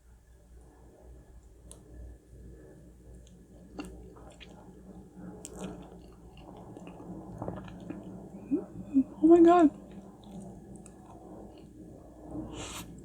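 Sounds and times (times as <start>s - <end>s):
eating soft cake: 1.4s - 13.0s.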